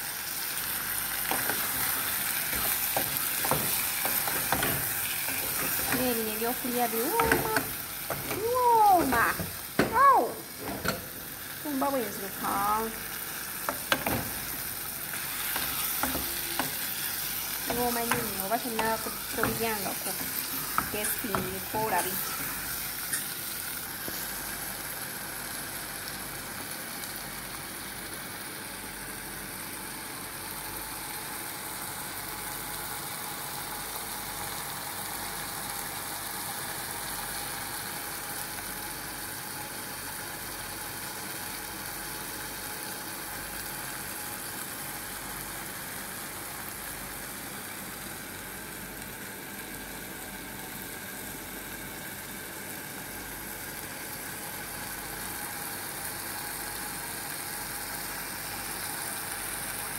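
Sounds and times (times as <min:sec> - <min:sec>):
prawns sizzling in a pot: 0:00.0 - 0:59.9.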